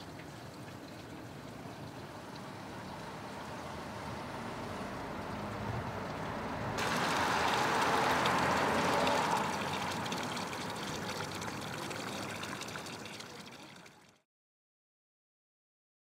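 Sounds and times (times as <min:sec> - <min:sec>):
fountain water splashing: 0:00.0 - 0:14.2.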